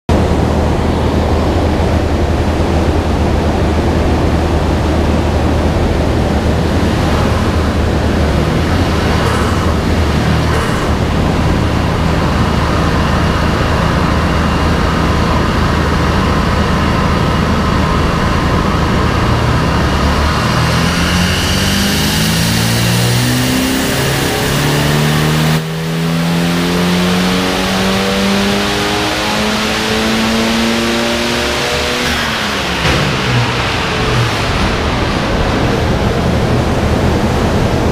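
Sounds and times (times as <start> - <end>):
car engine on dyno: 0.1 - 37.9
high turbo whine: 0.1 - 37.9
loud rushing noise: 0.1 - 37.9.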